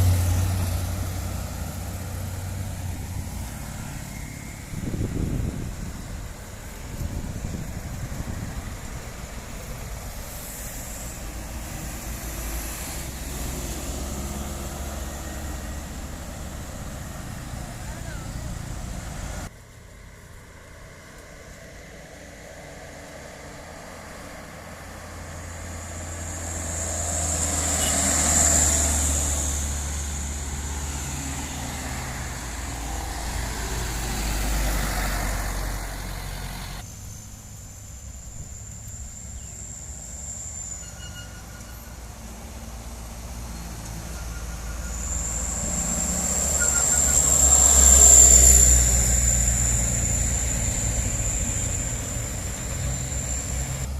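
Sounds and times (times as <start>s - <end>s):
vehicle engines rumbling with whine: 0.0s - 53.9s.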